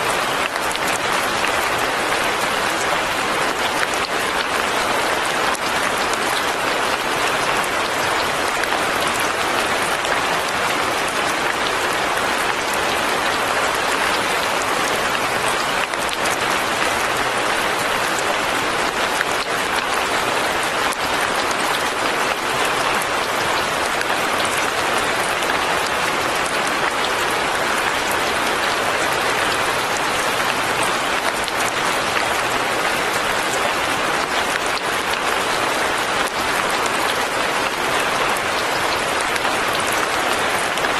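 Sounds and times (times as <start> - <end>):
light rain on foliage: 0.0 - 40.9.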